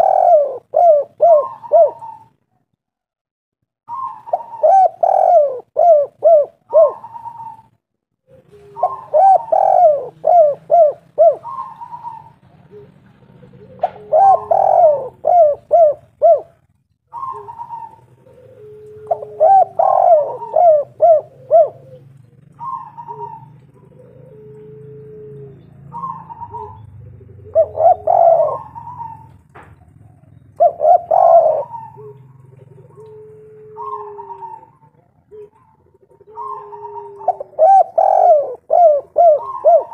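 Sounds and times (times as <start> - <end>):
dove cooing: 0.0 - 2.5, 3.9 - 39.9.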